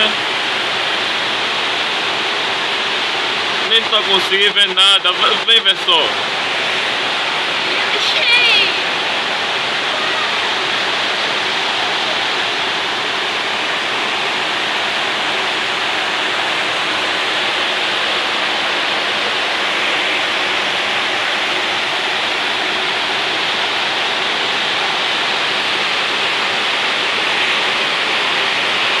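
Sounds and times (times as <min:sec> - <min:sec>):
heavy rain downpour: 0:00.0 - 0:29.0.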